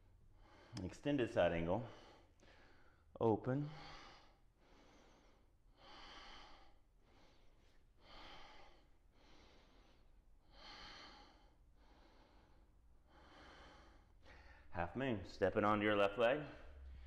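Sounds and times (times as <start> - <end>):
soft breathing: 0.3 - 14.8.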